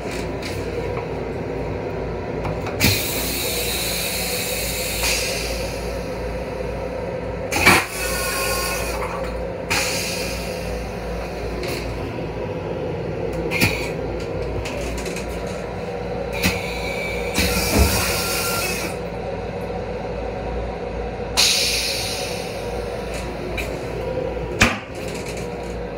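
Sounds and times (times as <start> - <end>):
train low rumble: 0.0 - 25.9.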